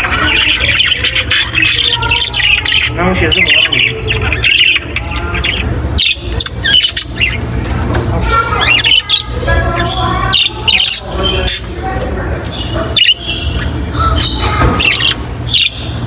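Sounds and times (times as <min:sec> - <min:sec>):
budgerigars chirping: 0:00.0 - 0:16.0
steady low hum: 0:00.0 - 0:16.0.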